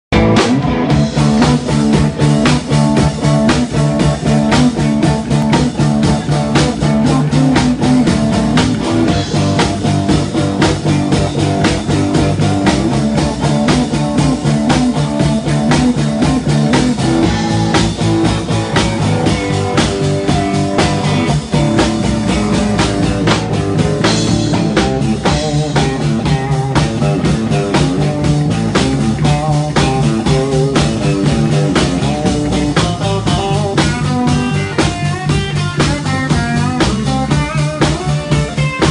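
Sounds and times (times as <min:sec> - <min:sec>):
blues-rock band playing: 0:00.1 - 0:38.9.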